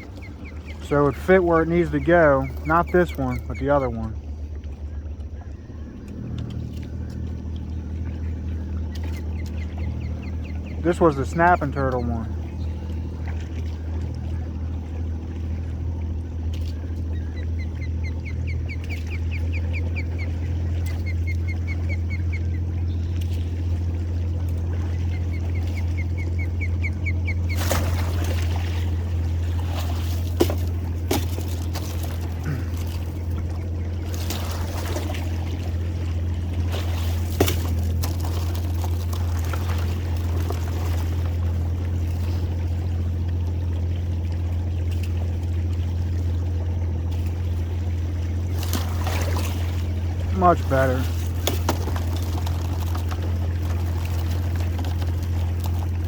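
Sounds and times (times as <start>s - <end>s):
boat motor humming: 0.0s - 56.0s
water splashing and dribbling: 0.0s - 56.0s.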